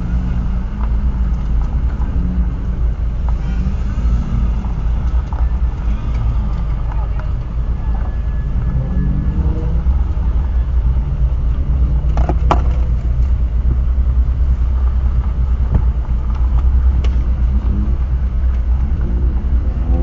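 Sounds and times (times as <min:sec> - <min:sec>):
low rumble inside car: 0:00.0 - 0:20.0
passing car engines revving: 0:00.0 - 0:20.0.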